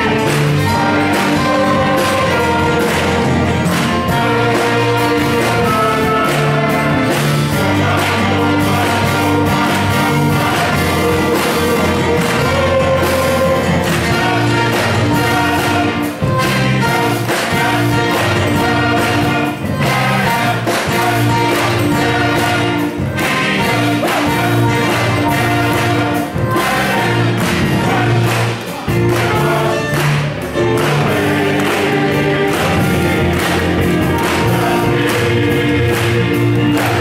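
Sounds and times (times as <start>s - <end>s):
brass with trombone: 0.0s - 37.0s
electric bass: 0.0s - 37.0s
electric guitars: 0.0s - 37.0s
keyboard: 0.0s - 37.0s
voices singing: 0.0s - 37.0s.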